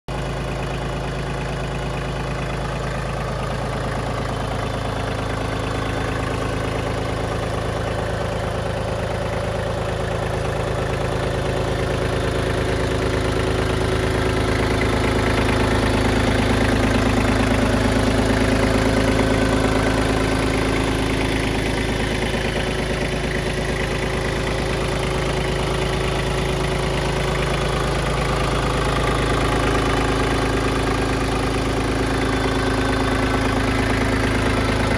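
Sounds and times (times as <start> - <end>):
diesel tractor engine idling: 0.1 - 34.9.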